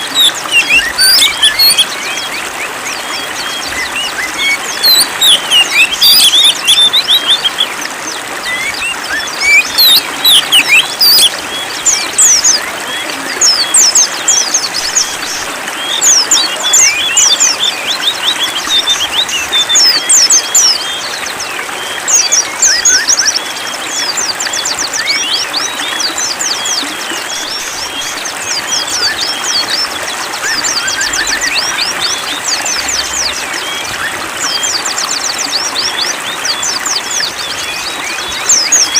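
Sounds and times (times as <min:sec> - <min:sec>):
running water: 0:00.0 - 0:38.9
small birds chirping and singing: 0:00.0 - 0:38.9.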